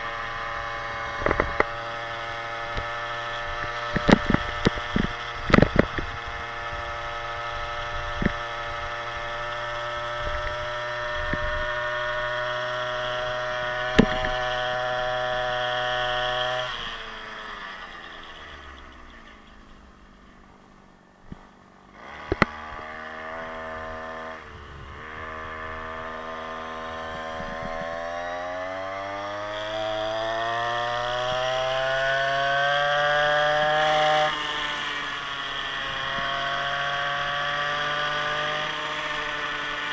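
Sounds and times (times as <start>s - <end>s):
two-stroke scooter engine revving: 0.0s - 20.5s, 21.3s - 39.9s.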